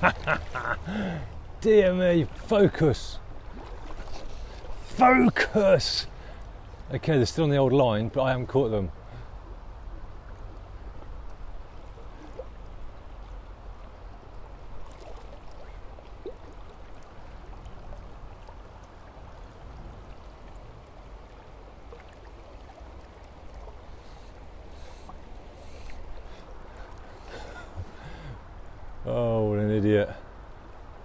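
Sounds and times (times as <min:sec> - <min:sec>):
river water over stones: 0:00.0 - 0:31.0.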